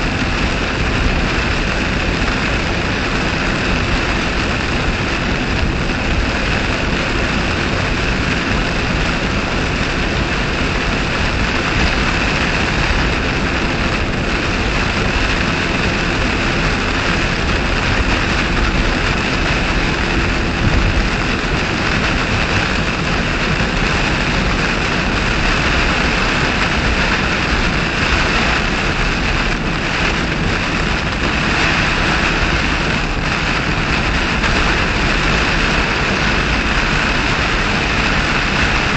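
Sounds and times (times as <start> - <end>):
heavy rain on car: 0.0 - 38.9
tyres on wet road: 0.0 - 38.9
wind: 0.0 - 38.9.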